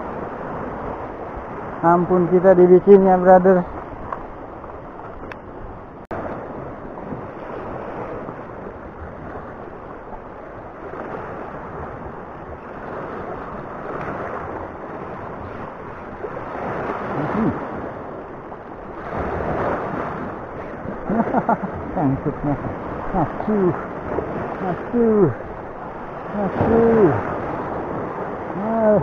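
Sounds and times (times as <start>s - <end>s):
surf breaking on rocky shore: 0.0s - 29.0s.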